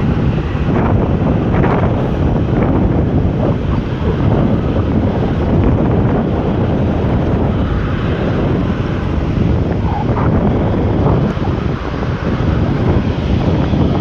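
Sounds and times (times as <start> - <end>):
jet engine noise: 0.0 - 14.0
wind buffeting microphone: 0.0 - 14.0.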